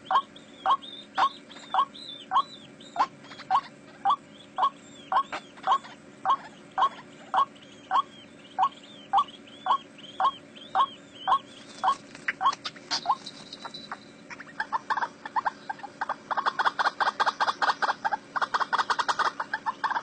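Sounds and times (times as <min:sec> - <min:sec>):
waterhen calling: 0:00.0 - 0:20.0.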